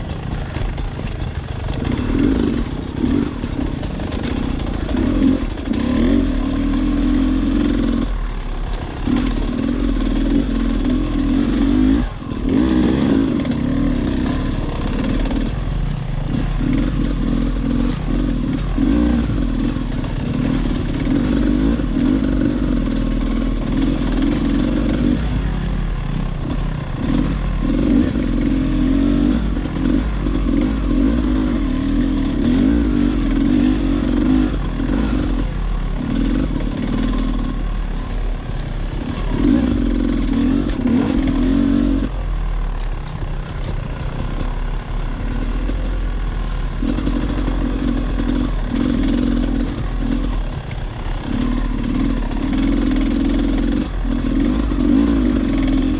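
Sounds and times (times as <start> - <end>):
dirt bike engine revving: 0.0 - 42.2, 46.7 - 55.9.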